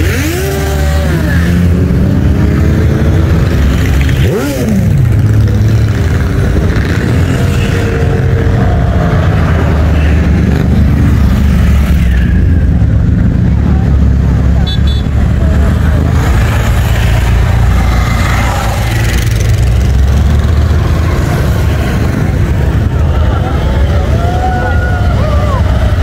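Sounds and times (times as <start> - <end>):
motorcycle engine revving: 0.0 - 23.1
motorcycles riding past: 0.0 - 26.0.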